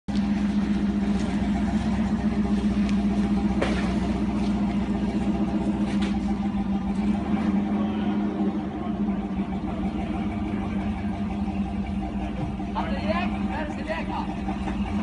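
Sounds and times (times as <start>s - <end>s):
vehicle engine droning: 0.1s - 15.0s.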